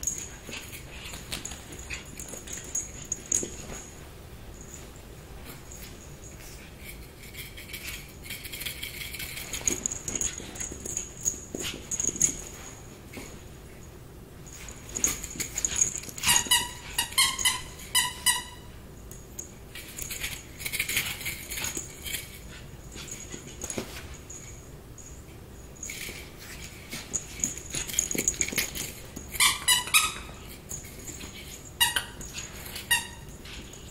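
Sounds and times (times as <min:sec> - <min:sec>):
puppy paws scrabbling and rustling: 0:00.0 - 0:33.9.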